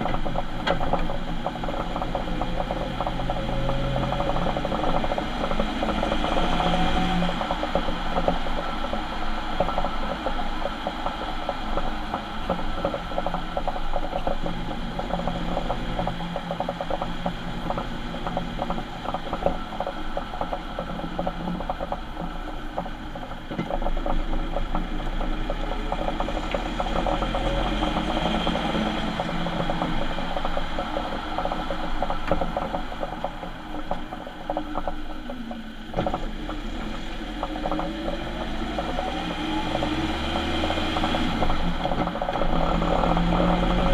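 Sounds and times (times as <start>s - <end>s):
van drive whine and rumble: 0.0s - 43.9s.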